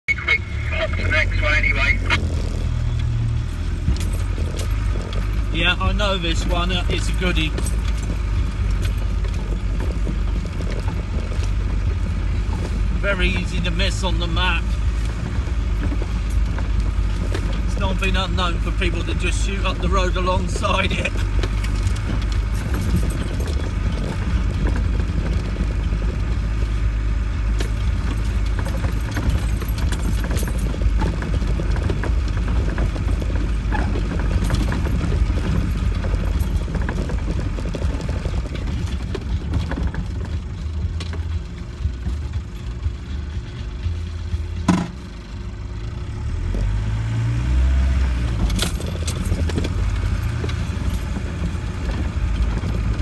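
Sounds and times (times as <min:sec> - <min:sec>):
engine and drivetrain rumble: 0:00.0 - 0:53.0
vehicle body rattles and knocks: 0:01.1 - 0:53.0.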